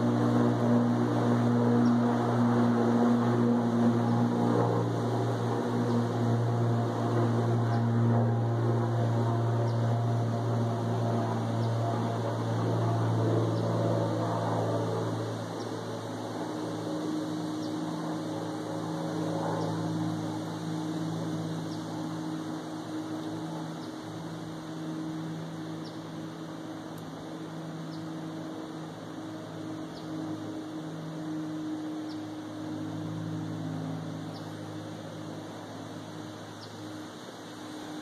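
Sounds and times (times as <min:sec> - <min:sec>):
propeller airplane engine droning: 0:00.0 - 0:38.0.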